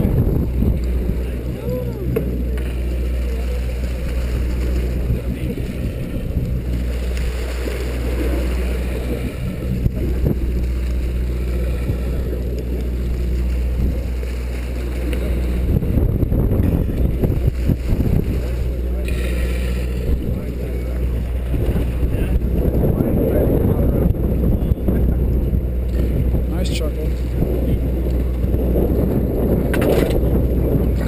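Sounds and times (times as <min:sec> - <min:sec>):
boat engine droning: 0:00.0 - 0:31.0
water sloshing against hull: 0:00.0 - 0:31.0
wind on microphone: 0:00.0 - 0:31.0.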